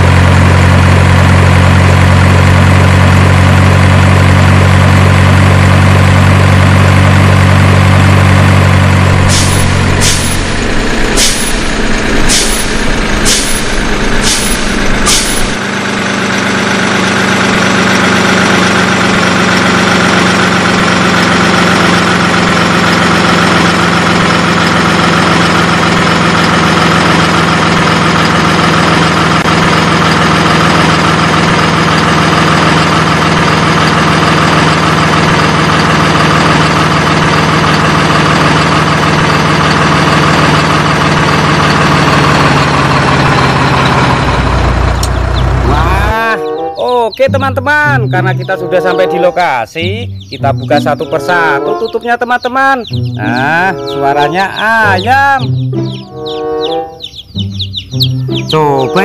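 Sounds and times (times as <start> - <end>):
higher lighter engine note: 0.0 - 52.1, 52.8 - 59.0
truck engine rumbling: 0.0 - 59.0.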